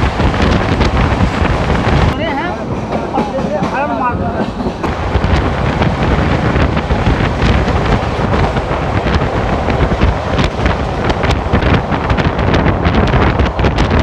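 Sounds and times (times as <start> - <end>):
train rumbling on rails: 0.0 - 14.0
wind buffeting microphone: 0.0 - 14.0.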